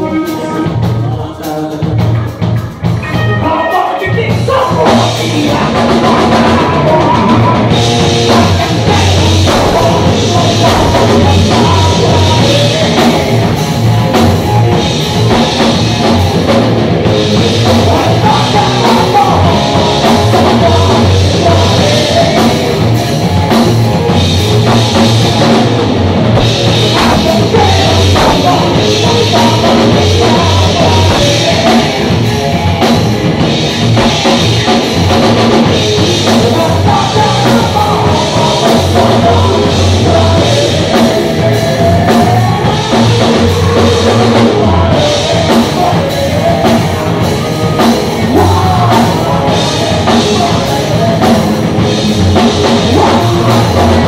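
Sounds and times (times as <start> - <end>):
bass guitar: 0.0 - 54.0
drum kit: 0.0 - 54.0
electric guitar: 0.0 - 54.0
person singing: 0.0 - 54.0.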